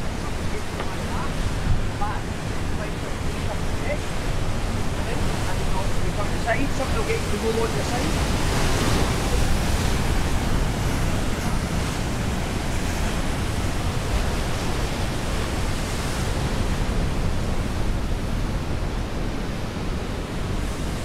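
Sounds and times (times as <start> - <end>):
ocean surf: 0.0 - 21.0
wind: 0.0 - 21.0.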